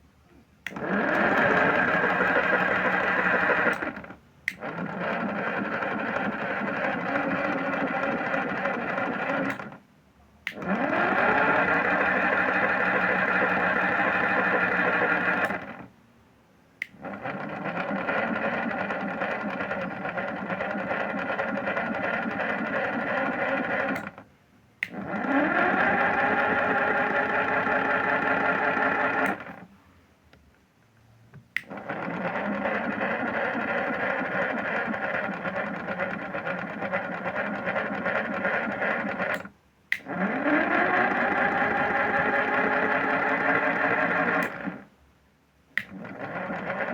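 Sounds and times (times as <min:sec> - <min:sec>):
washing machine motor turning drum: 0:00.7 - 0:09.8, 0:10.5 - 0:15.9, 0:16.8 - 0:24.2, 0:24.8 - 0:29.6, 0:31.6 - 0:44.8, 0:45.8 - 0:46.9.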